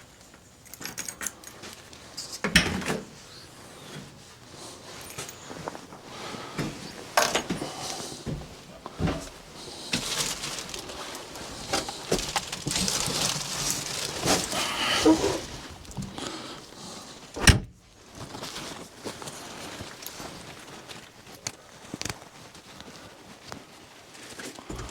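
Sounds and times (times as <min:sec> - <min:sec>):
shuffling and rustling: 0:00.0 - 0:24.9.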